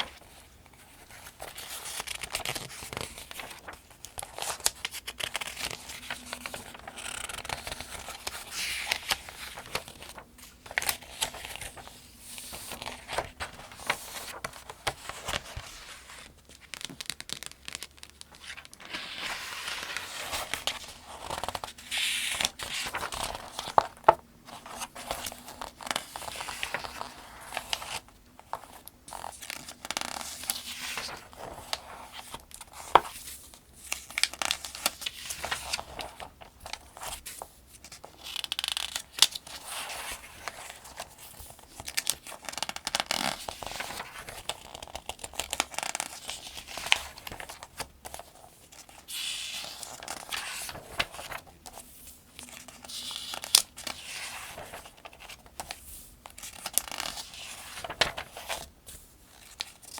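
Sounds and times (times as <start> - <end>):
pages being turned: 0.0 - 59.9.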